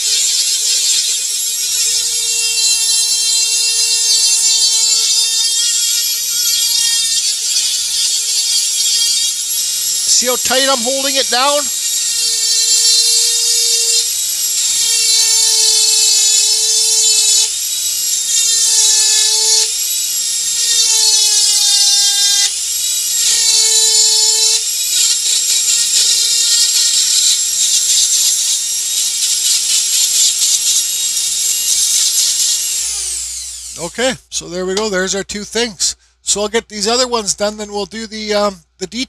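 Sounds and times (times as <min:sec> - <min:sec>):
rotary tool whining against wood: 0:00.0 - 0:33.9.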